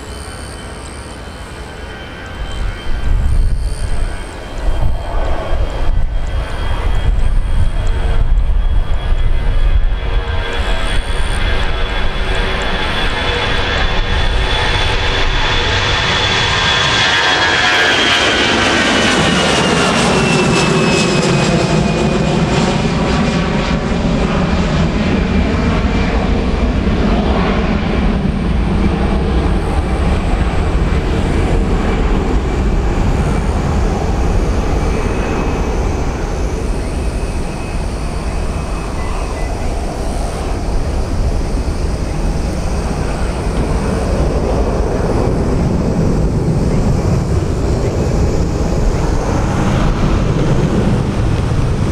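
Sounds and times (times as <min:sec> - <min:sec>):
high fan whine: 0:00.0 - 0:51.9
jet engines roaring at takeoff: 0:00.0 - 0:51.9.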